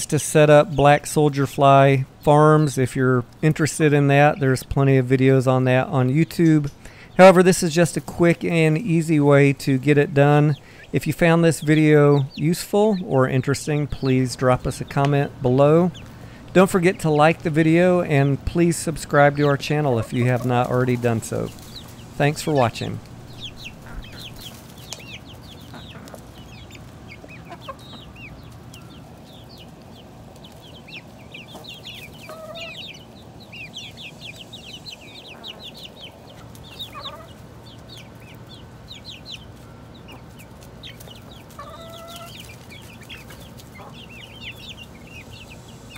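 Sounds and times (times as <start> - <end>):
chicken calls: 0.0 - 45.9
chicks peeping: 0.0 - 45.9.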